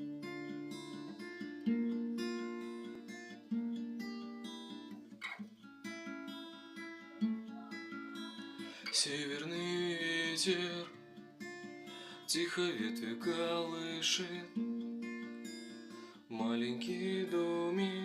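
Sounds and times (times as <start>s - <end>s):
acoustic guitar chords ringing: 0.0s - 18.0s.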